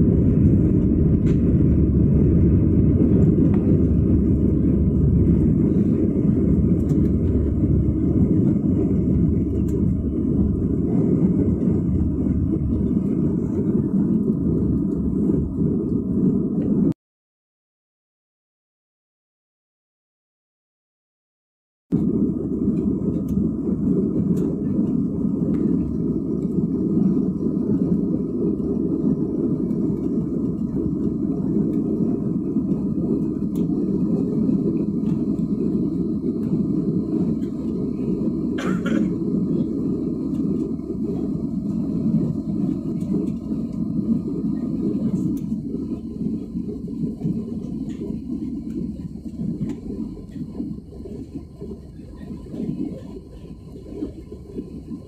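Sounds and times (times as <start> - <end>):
jet engines and airflow rumble: 0.0 - 17.0, 21.9 - 55.0.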